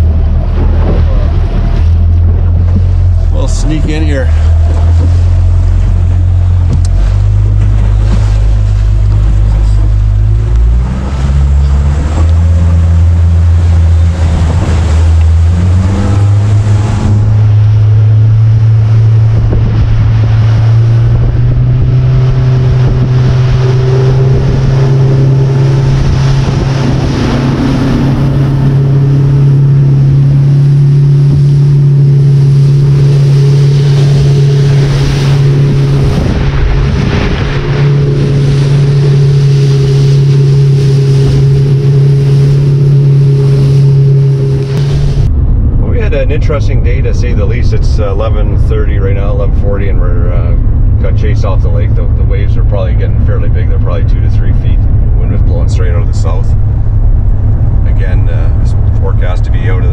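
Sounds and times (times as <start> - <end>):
hull slapping through waves: 0.0 - 49.8
outboard motor throttling up: 0.0 - 59.9
wind: 0.0 - 59.9.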